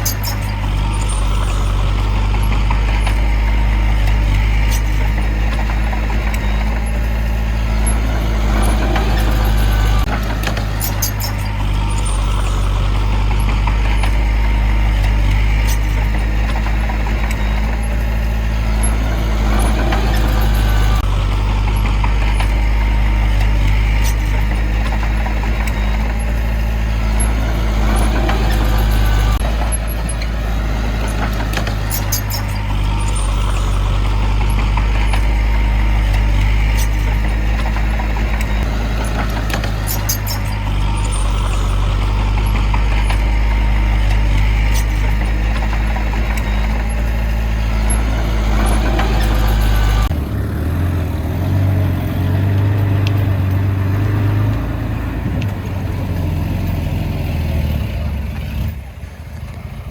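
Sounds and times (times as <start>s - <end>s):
sharp metallic clicks: 0.0s - 50.2s
heavy diesel machinery running: 0.0s - 59.9s.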